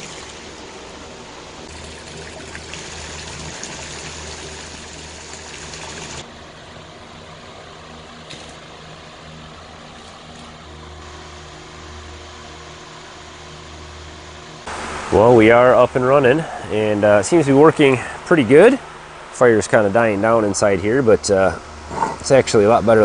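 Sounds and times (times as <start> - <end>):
sap boiling rushing noise: 0.0 - 7.3, 7.9 - 23.0.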